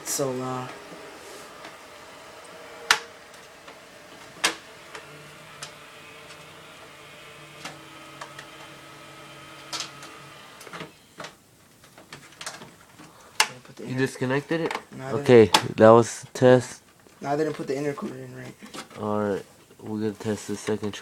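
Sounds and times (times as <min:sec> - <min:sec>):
console fan whirring hum: 0:00.0 - 0:21.0.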